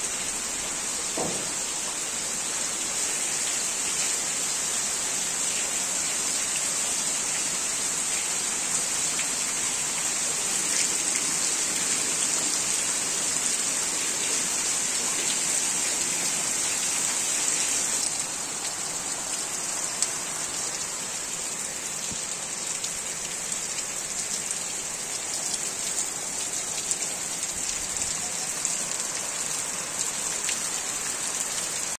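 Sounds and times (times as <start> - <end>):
torrential rain on ground and puddles: 0.0 - 32.0.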